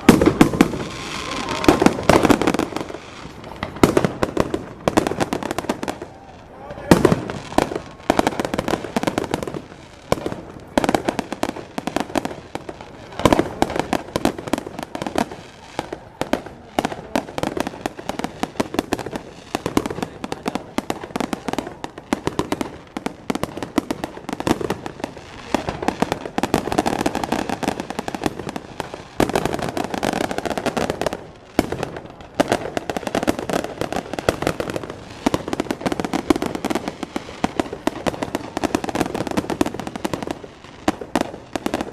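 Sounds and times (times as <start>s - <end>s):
fireworks crackling and popping: 0.0s - 41.9s
loud firework bangs: 0.0s - 41.9s.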